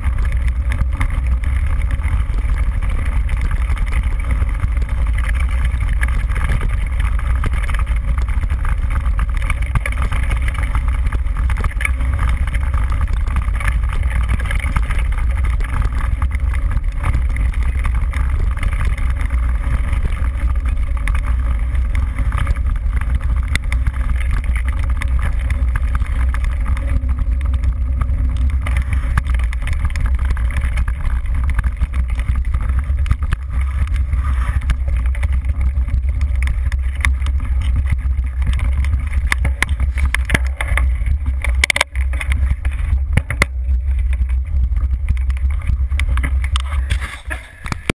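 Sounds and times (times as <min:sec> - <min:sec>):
bike rattling and ticking: 0:00.0 - 0:47.9
wind buffeting microphone: 0:00.0 - 0:47.9.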